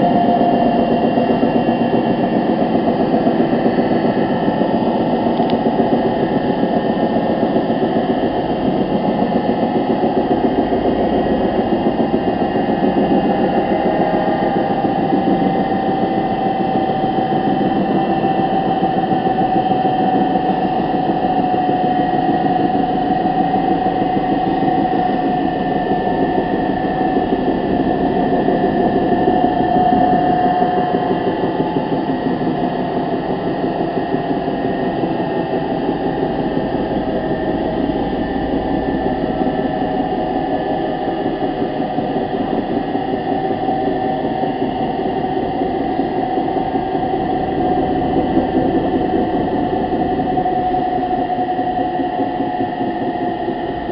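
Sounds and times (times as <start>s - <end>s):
sustained whine: 0.0s - 53.9s.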